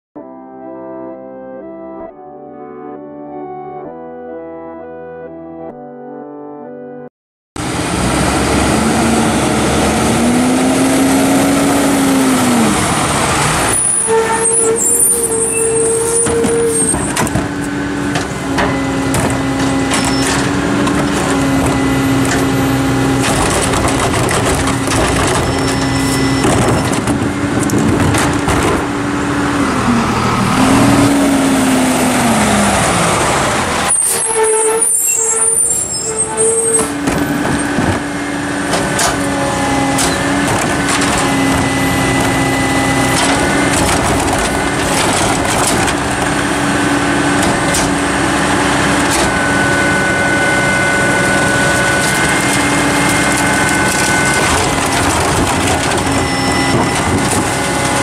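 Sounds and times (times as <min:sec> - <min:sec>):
diesel engine revving: 0:07.6 - 0:58.0
hydraulics lifting trash carts: 0:07.6 - 0:58.0.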